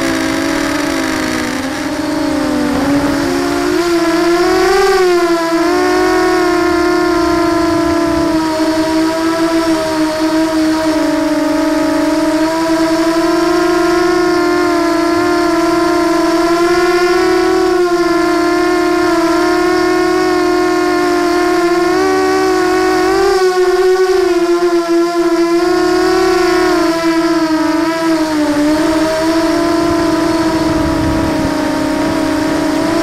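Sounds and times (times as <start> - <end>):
quadcopter propellers whining: 0.0 - 33.0.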